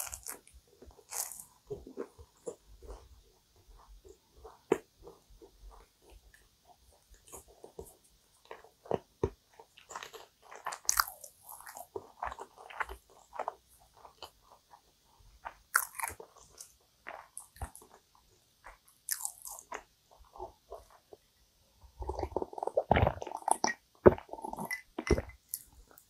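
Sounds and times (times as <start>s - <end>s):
crunchy pastry chewing: 0.0s - 21.2s, 22.0s - 26.0s.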